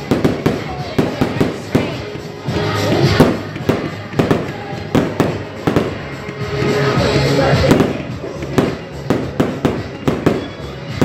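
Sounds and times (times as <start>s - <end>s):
fireworks bangs and pops: 0.0s - 11.0s
music playing: 0.0s - 11.0s.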